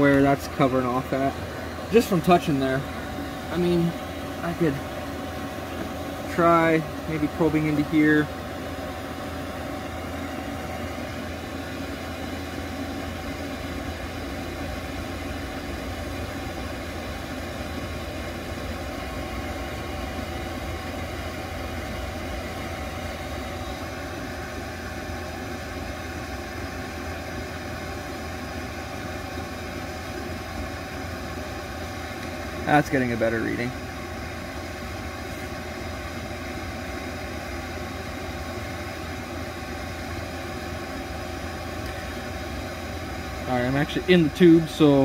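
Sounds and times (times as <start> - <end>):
blower fan humming: 0.0 - 45.0
diesel air heater running: 0.0 - 45.0.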